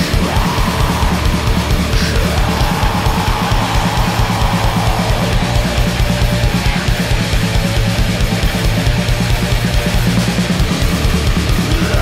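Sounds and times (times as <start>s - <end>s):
bass guitar: 0.0s - 12.0s
distorted electric guitar: 0.0s - 12.0s
drum kit drumming: 0.0s - 12.0s.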